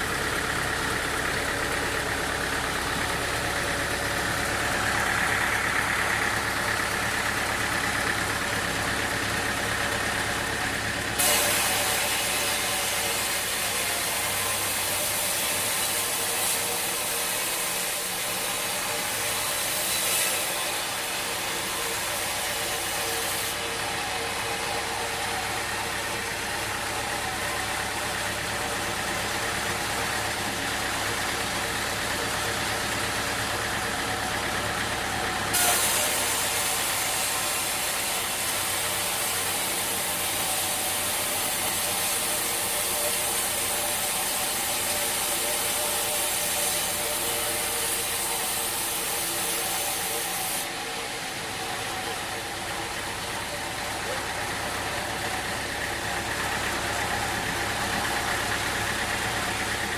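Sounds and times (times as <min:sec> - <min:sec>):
saw cutting through wood: 0:00.0 - 0:59.9
sawmill engine running: 0:00.0 - 0:59.9.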